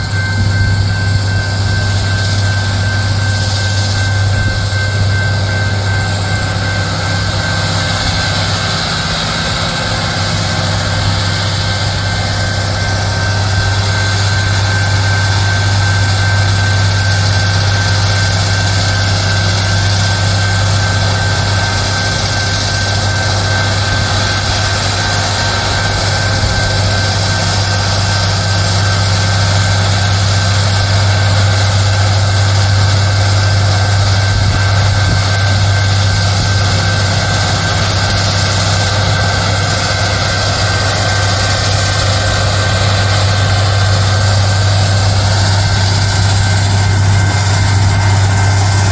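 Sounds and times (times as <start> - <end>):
diesel engines droning: 0.0 - 48.9
thin constant whine: 0.0 - 48.9.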